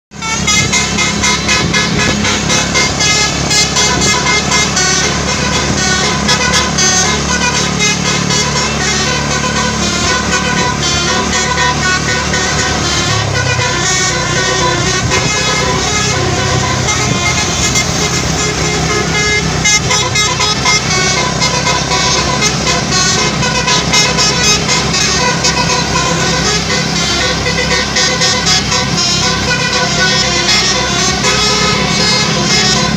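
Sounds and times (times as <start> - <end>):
multi-trumpet bus air horn melody: 0.1 - 32.9.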